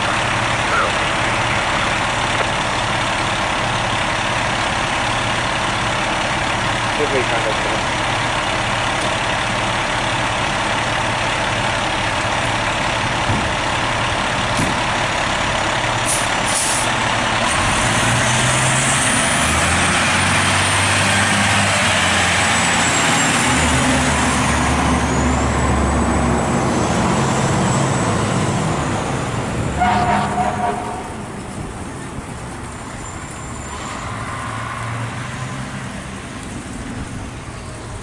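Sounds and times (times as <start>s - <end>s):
truck engine under load: 0.0s - 38.0s.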